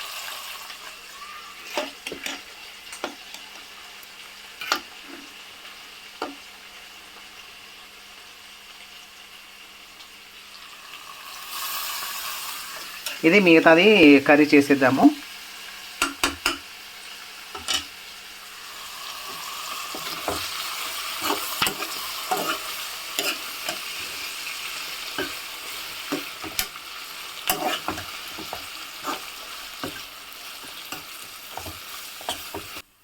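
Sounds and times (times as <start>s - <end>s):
food sizzling in oil: 0.0s - 33.0s.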